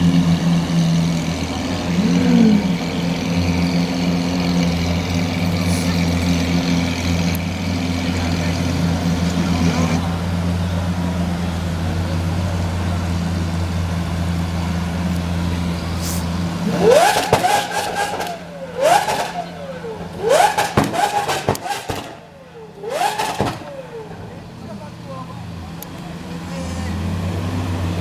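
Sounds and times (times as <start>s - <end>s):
car engine idling: 0.0s - 28.0s
engine revving: 0.0s - 28.0s
exhaust crackles: 0.0s - 28.0s.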